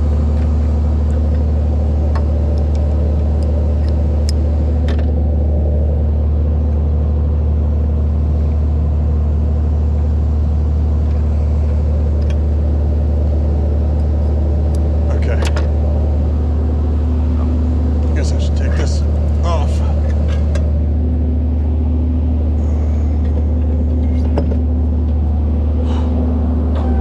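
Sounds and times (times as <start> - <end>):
truck engine droning: 0.0 - 27.0.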